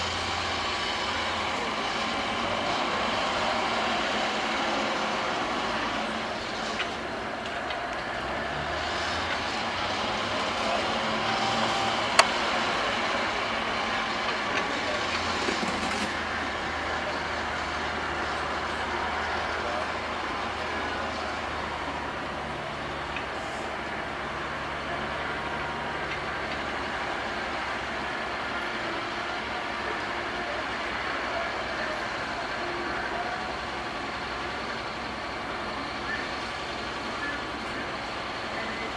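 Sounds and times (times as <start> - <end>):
heavy machinery running: 0.0 - 38.9.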